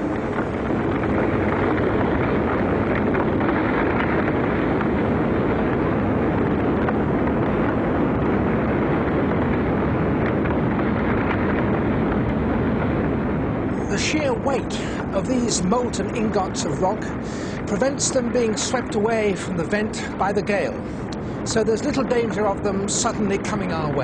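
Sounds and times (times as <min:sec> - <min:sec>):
faint crackles: 0:00.0 - 0:24.0
lava fountain roaring: 0:00.0 - 0:24.0
wind buffeting microphone: 0:00.0 - 0:24.0.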